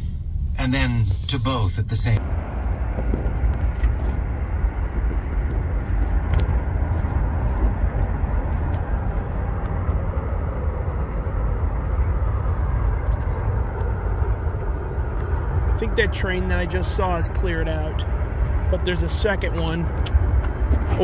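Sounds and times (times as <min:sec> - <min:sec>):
rumble of passing vehicles: 0:00.0 - 0:21.0.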